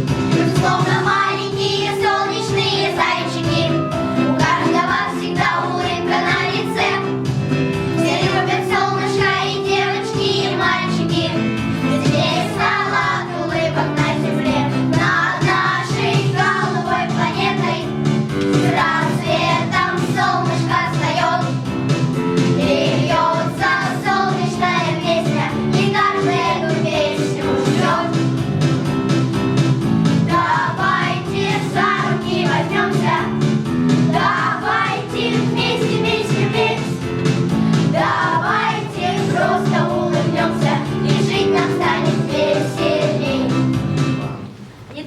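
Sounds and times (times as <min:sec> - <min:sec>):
instrumental backing music: 0:00.0 - 0:45.0
children singing: 0:00.4 - 0:07.2, 0:08.0 - 0:18.0, 0:18.6 - 0:21.6, 0:22.6 - 0:28.3, 0:30.2 - 0:33.4, 0:34.1 - 0:37.0, 0:37.8 - 0:43.7.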